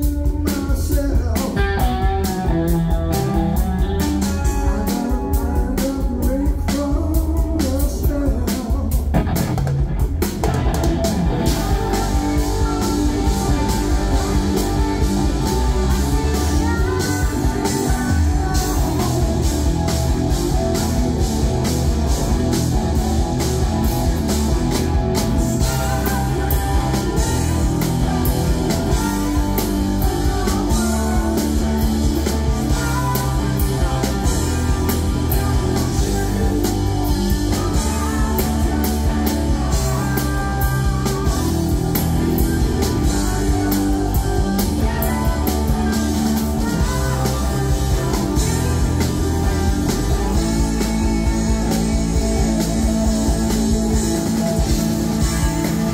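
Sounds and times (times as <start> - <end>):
bass guitar: 0.0 - 55.9
drum kit with cymbals: 0.0 - 55.9
electric guitar: 0.0 - 55.9.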